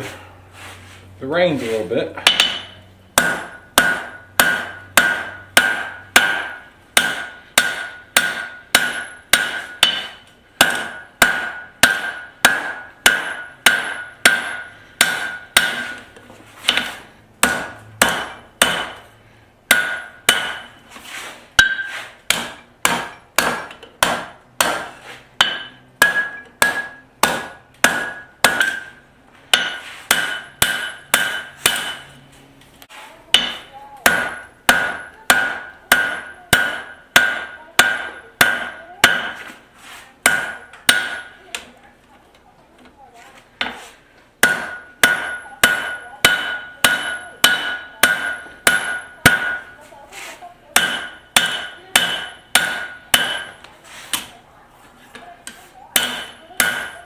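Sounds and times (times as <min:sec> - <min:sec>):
hammer striking steel on anvil: 0:02.2 - 0:19.1, 0:19.7 - 0:20.9, 0:21.6 - 0:32.2, 0:33.3 - 0:39.6, 0:40.2 - 0:41.7, 0:44.4 - 0:49.9, 0:50.8 - 0:54.3, 0:55.4 - 0:57.0.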